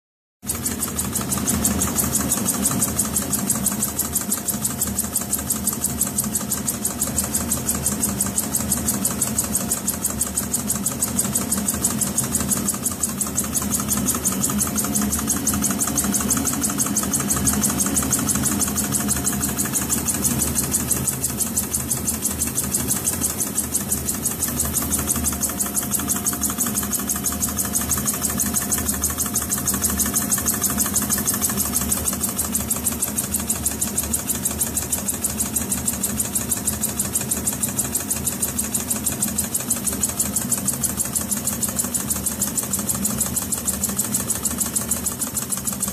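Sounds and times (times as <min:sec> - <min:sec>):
steam engine exhaust beating: 0:00.4 - 0:45.9.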